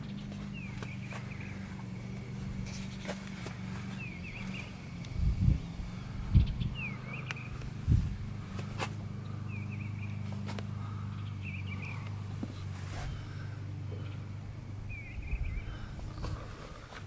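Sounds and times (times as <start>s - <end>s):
bird chirping: 0.0s - 7.8s, 9.2s - 16.8s
truck engine idling: 0.0s - 17.0s.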